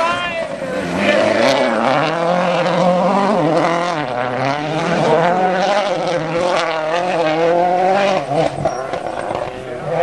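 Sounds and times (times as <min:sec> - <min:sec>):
rally car engine at high revs: 0:00.4 - 0:10.0.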